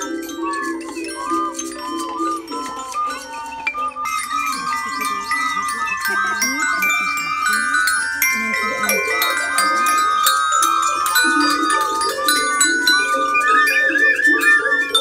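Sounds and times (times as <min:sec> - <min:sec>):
high warbling tone: 0:00.0 - 0:15.0
xylophone music: 0:00.0 - 0:15.0.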